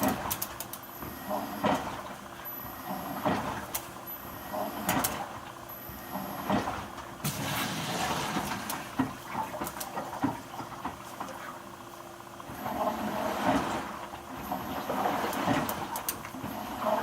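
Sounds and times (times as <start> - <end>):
washing machine clunks and clicks: 0.0 - 3.9, 4.5 - 11.6, 12.4 - 17.0
water swishing in washing machine: 0.0 - 17.0.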